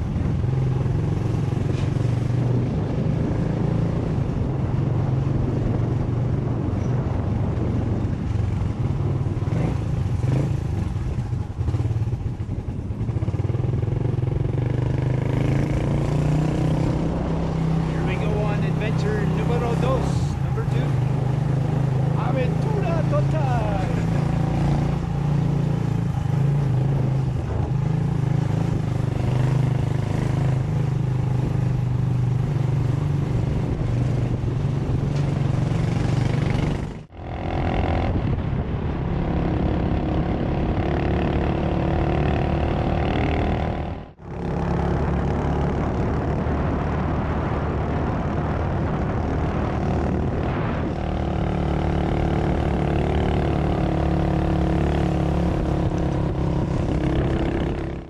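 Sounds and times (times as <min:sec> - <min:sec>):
motorcycle engine running: 0:00.0 - 0:58.0
wind noise: 0:00.0 - 0:58.0.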